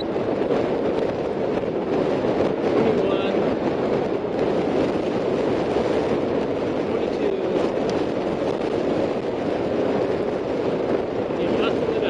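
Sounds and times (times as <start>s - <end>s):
bicycle tyre rumble: 0.0s - 12.0s
rushing wind: 0.0s - 12.0s.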